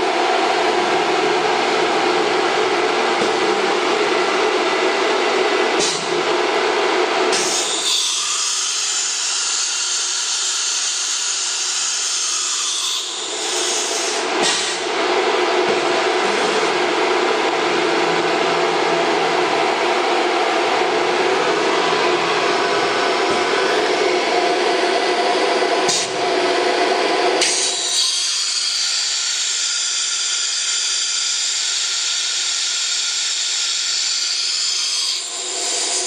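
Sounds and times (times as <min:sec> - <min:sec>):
router machinery running: 0:07.0 - 0:36.0.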